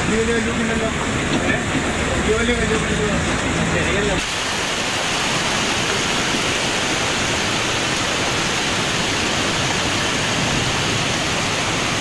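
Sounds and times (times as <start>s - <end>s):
floodwater rushing: 0.0s - 12.0s
heavy rain: 0.0s - 12.0s.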